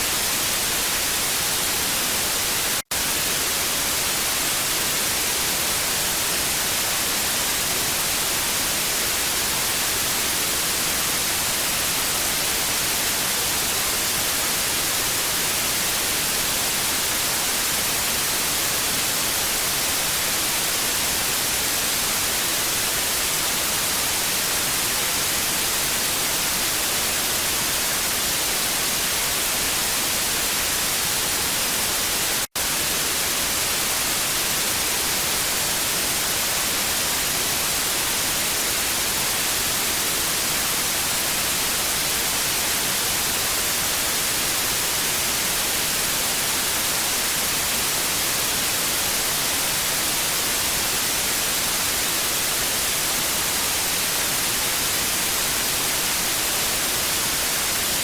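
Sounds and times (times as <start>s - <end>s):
tv static hiss: 0.0s - 58.0s.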